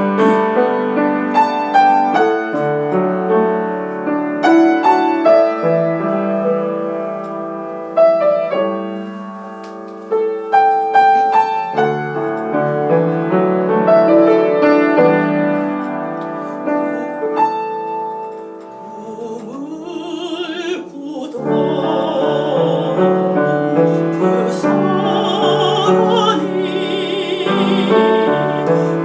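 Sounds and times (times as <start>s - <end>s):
piano playing: 0.0s - 29.0s.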